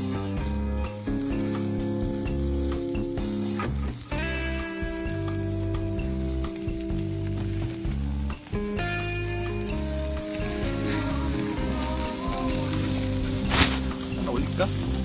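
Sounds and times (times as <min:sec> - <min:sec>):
background music held chords: 0:00.0 - 0:15.0
meat sizzling on grill: 0:00.0 - 0:15.0.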